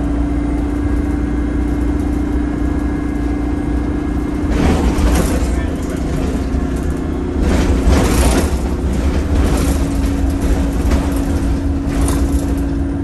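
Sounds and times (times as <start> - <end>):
bus engine and road rumble: 0.0 - 13.0
constant hum: 0.0 - 13.0
road and body noise: 0.0 - 13.0.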